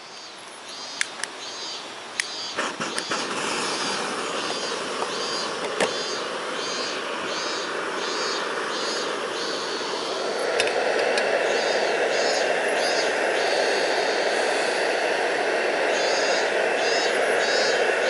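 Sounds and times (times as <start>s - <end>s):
camping stove burner hissing: 0.6s - 18.0s.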